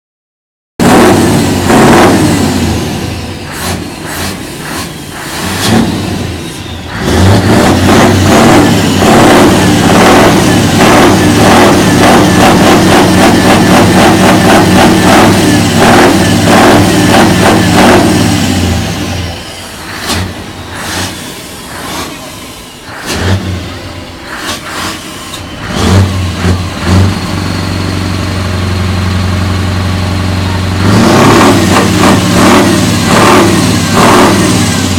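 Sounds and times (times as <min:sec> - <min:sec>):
truck engine revving: 0:00.8 - 0:34.9.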